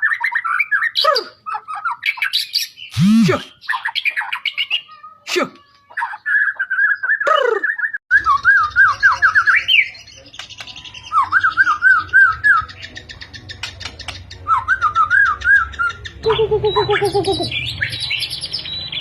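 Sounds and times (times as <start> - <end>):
sharp bird calls: 0.0 - 19.0.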